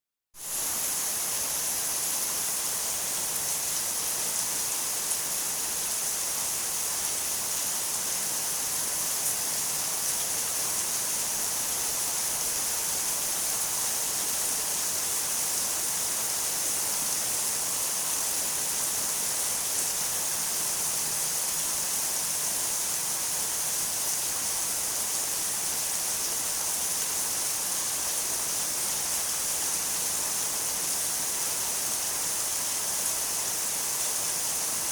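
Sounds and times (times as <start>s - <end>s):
steady rain: 0.4s - 34.9s.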